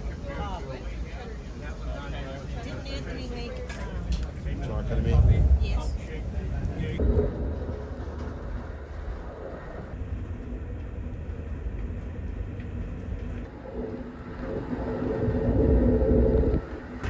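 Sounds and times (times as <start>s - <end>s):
passenger train rumble from inside: 0.0s - 17.0s.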